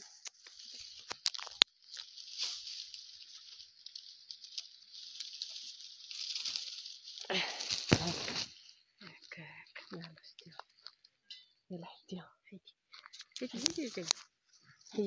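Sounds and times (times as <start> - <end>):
leaves and twigs rustling: 0.0 - 11.4, 12.9 - 15.0.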